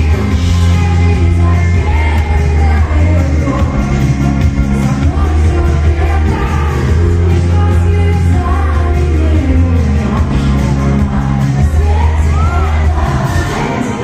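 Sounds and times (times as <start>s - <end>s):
person singing: 0.0s - 14.0s
pop-rock band playing live: 0.0s - 14.0s.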